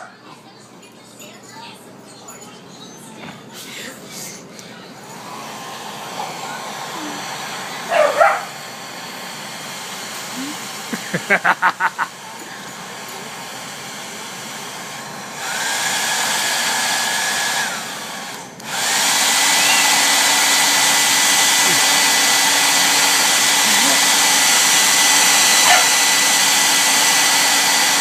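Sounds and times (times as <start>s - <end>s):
hair dryer blowing: 4.9s - 28.0s.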